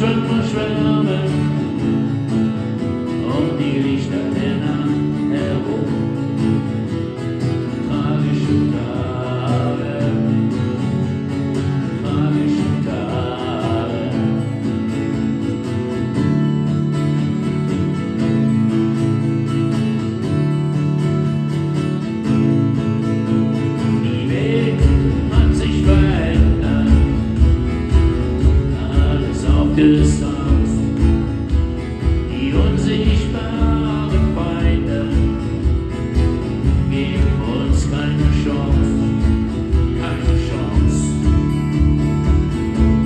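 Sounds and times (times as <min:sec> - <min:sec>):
acoustic guitars strumming: 0:00.0 - 0:43.0.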